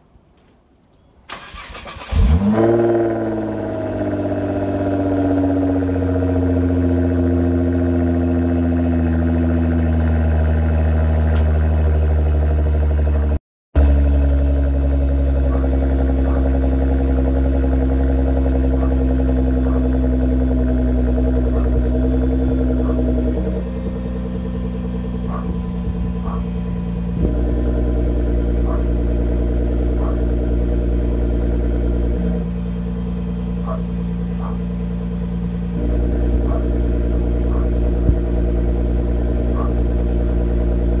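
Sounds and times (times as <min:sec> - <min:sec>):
car engine idling: 0:01.3 - 0:41.0.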